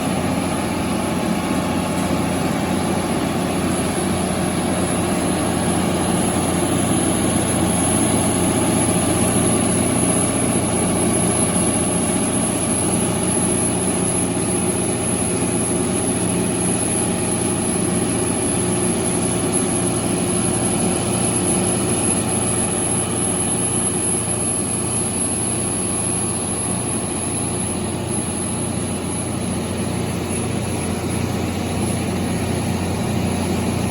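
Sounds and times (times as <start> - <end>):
diesel generator engine running: 0.0 - 33.9
high-pitched whine: 0.0 - 33.9.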